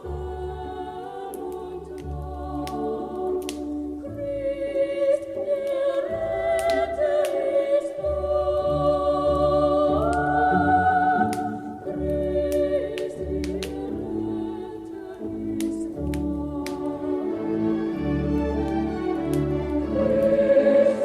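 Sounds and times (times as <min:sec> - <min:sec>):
choir singing slow song: 0:00.0 - 0:21.0
wood fire crackling: 0:00.0 - 0:21.0.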